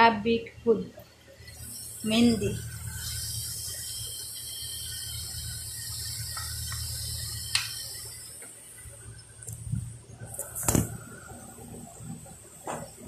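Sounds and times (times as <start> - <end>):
steady hiss with low hum: 0.0 - 13.0.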